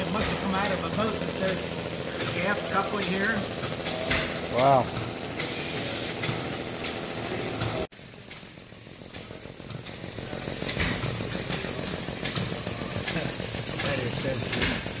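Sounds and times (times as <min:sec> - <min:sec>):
hissing chatter: 0:00.0 - 0:07.9, 0:10.1 - 0:14.6
steam engine running: 0:00.0 - 0:15.0.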